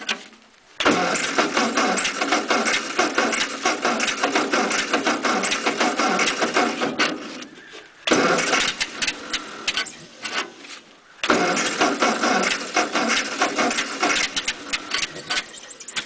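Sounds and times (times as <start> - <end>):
starter cranking engine: 0.8 - 7.5, 8.1 - 10.0, 11.2 - 16.0.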